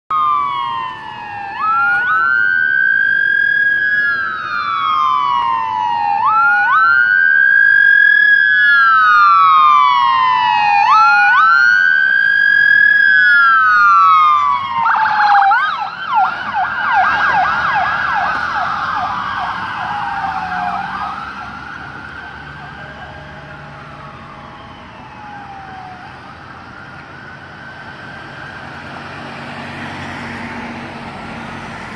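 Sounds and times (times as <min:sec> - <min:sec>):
ambulance siren wailing: 0:00.1 - 0:31.9.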